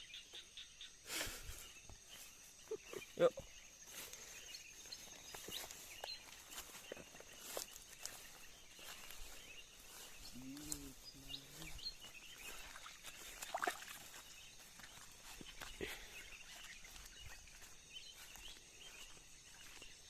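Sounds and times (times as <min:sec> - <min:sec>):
high insect drone: 0:00.0 - 0:20.0
crackles of moving through undergrowth: 0:01.1 - 0:20.0.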